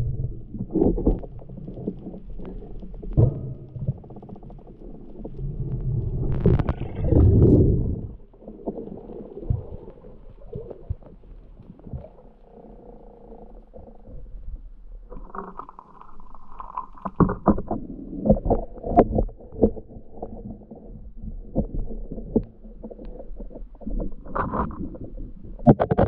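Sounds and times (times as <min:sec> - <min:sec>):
muffled underwater rumbling: 0:00.0 - 0:26.0.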